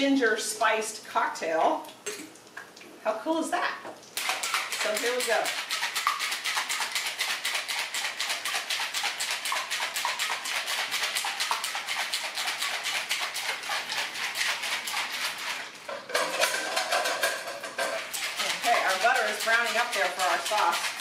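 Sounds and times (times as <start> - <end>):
ice rattling in cocktail shaker: 4.2 - 21.0.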